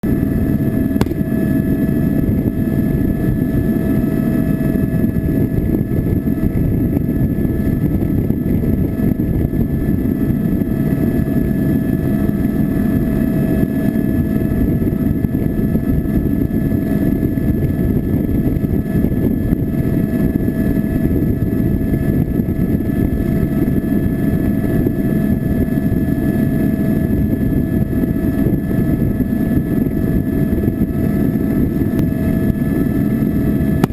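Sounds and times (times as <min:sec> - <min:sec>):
engine rumble with high whine: 0:00.0 - 0:33.9.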